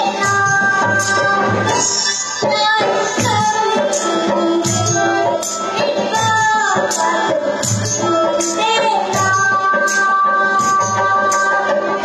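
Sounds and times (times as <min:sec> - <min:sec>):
child singing through loudspeaker: 0:00.0 - 0:12.0
steady percussion beat: 0:00.0 - 0:12.0.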